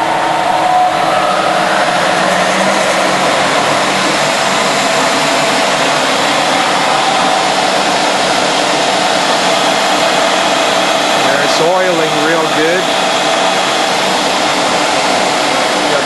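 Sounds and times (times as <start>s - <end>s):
lathe whirring: 0.0s - 16.0s.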